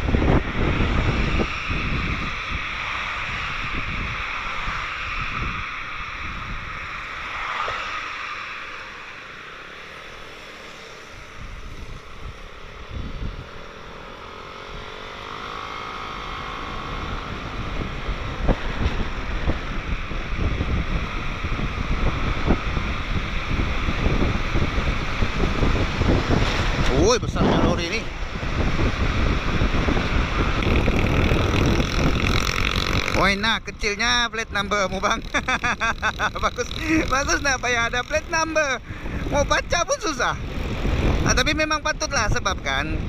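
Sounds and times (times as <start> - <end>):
scooter engine whine: 0.0 - 43.0
wind buffeting microphone: 0.0 - 43.0.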